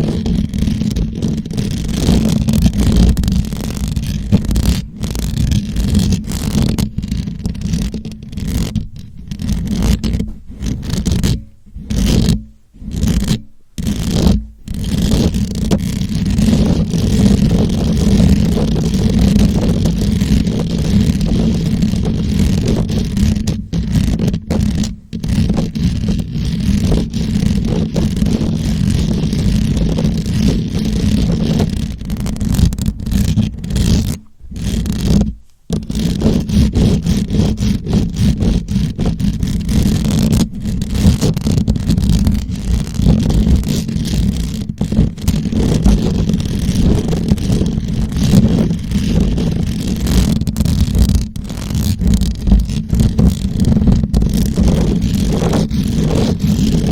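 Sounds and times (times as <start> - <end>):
scratching on a microphone: 0.0 - 56.9.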